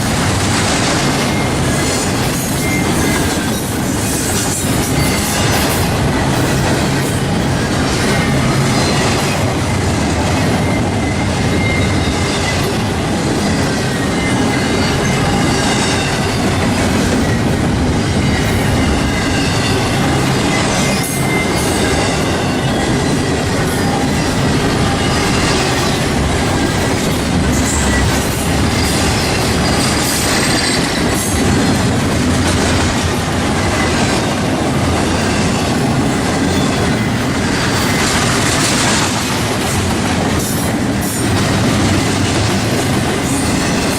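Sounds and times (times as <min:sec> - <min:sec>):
freight train cars rolling: 0:00.0 - 0:43.9
wheels squealing on rail: 0:00.0 - 0:43.9.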